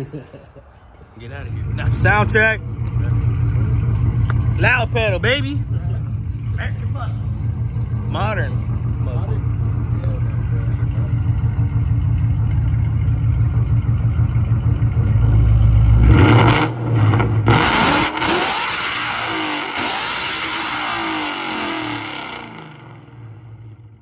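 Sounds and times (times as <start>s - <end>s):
car engine idling and revving: 1.2s - 24.0s.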